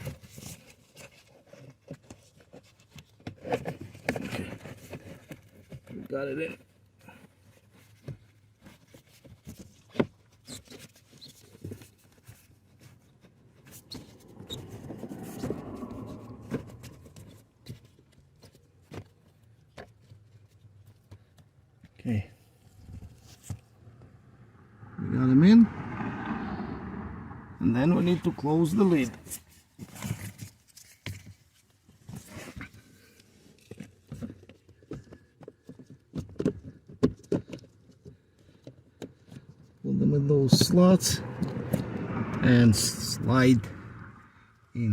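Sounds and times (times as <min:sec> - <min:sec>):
rustling and scraping: 0:00.0 - 0:25.0, 0:27.8 - 0:44.1.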